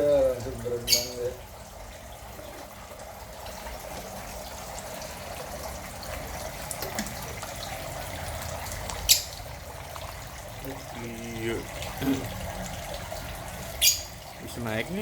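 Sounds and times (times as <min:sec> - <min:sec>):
small water splashes: 0:00.0 - 0:15.0
water trickling into pond: 0:00.0 - 0:15.0.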